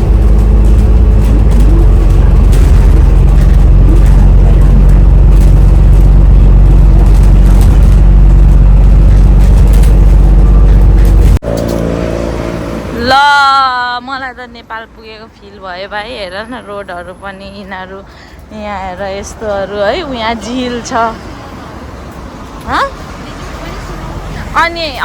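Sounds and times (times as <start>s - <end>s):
bus engine drone: 0.0s - 25.0s
moving bus rumble: 0.0s - 25.0s.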